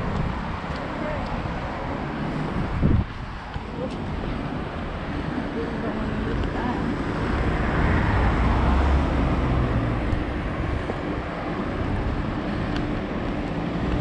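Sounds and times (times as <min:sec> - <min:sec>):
cars passing: 0:00.0 - 0:14.0.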